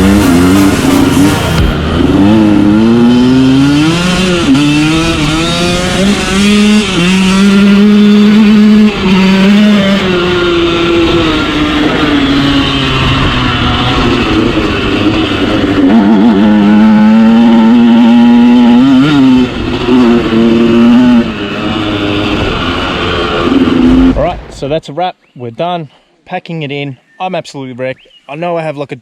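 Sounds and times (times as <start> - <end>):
dirt bike engine revving: 0.0 - 24.8.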